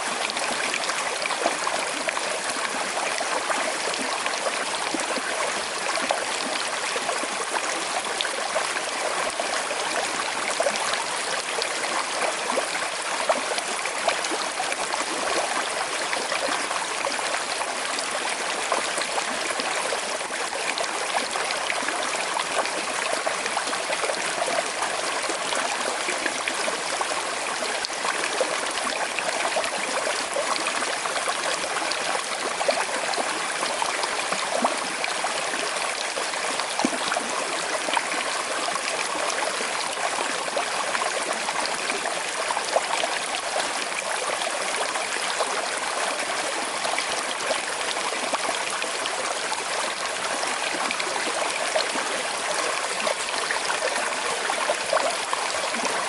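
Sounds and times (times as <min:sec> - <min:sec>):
river flowing over stones: 0:00.0 - 0:56.0
water splashes and trickles: 0:00.0 - 0:56.0.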